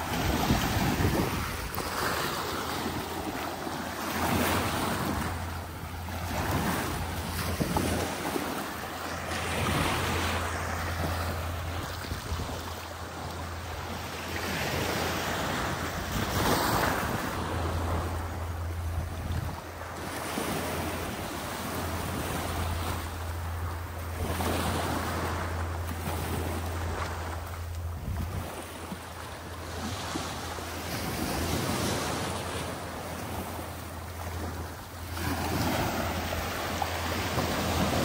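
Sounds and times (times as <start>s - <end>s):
small waves washing onto sand: 0.0s - 38.0s
wind rumbling on microphone: 0.0s - 38.0s.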